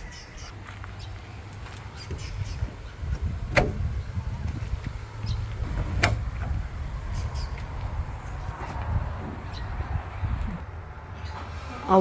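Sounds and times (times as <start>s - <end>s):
steady low rumble: 1.2s - 11.1s.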